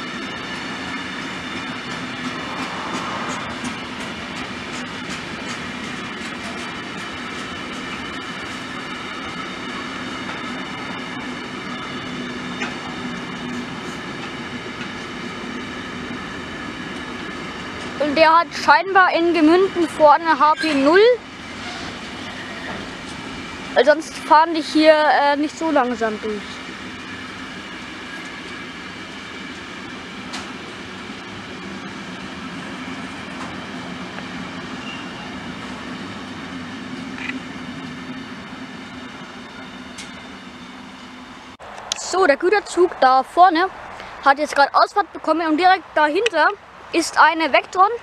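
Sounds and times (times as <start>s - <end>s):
freight train wheels rumbling on rail: 0.0s - 48.0s.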